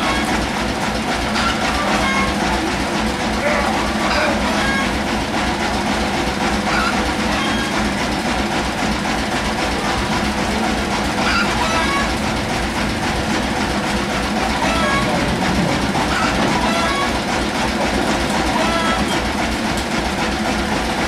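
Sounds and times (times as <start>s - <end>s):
band saw machinery running: 0.0s - 21.0s.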